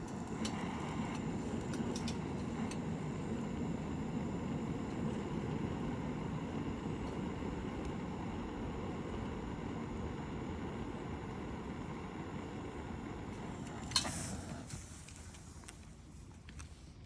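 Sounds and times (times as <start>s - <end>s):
campfire flames rushing: 0.0s - 16.9s
fire crackles and pops: 0.0s - 16.9s.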